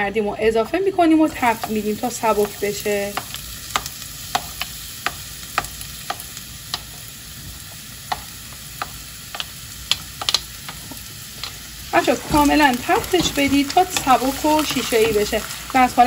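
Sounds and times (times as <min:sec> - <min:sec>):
onion sizzling in a frying pan: 0:00.0 - 0:16.0.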